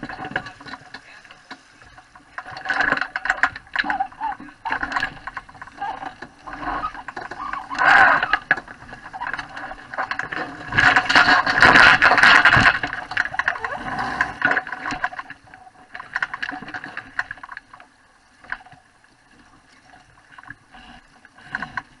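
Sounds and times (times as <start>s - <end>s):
water splashing along boat hull: 0.0s - 22.0s.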